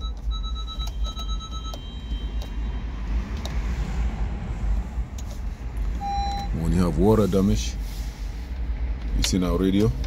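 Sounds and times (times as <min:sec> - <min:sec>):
low vehicle rumble: 0:01.2 - 0:10.0.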